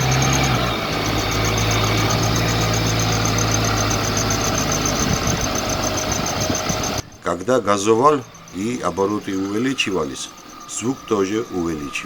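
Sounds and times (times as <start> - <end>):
car engine running: 0.0 - 12.0
high-pitched chirping squeak: 0.0 - 12.0.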